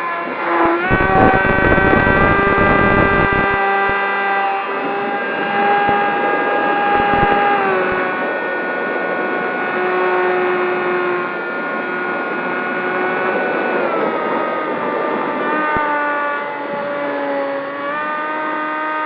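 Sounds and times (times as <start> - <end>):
rc plane motor whining: 0.0 - 19.0.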